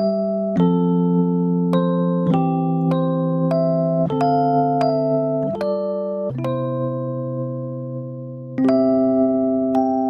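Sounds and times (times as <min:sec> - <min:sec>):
keyboard chord ringing: 0:00.0 - 0:10.0.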